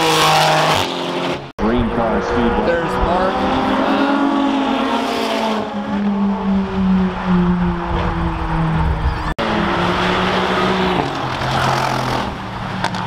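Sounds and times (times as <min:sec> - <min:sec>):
sports car engine passing: 0:00.0 - 0:13.0.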